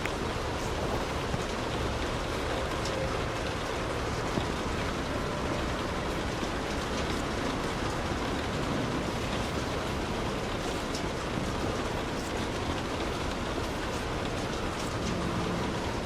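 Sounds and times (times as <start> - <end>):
rain pattering on car roof: 0.0 - 16.0.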